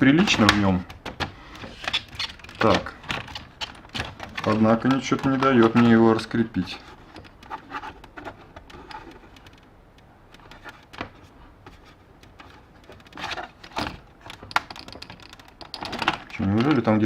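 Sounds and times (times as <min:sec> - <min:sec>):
plastic clicks and knocks: 0:00.2 - 0:06.0, 0:06.6 - 0:16.9
plastic clatter: 0:00.2 - 0:09.7, 0:10.4 - 0:16.9.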